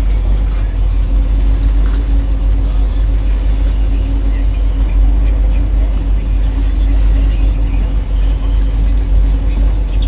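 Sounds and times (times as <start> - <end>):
boat engine drone: 0.0 - 10.0.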